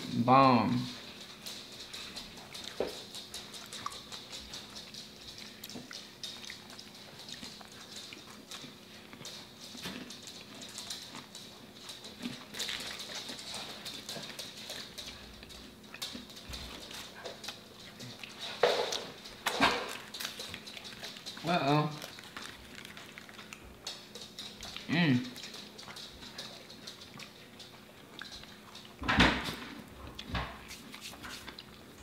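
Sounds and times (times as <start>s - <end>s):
wet mouth chewing: 1.6s - 29.0s, 29.9s - 32.0s.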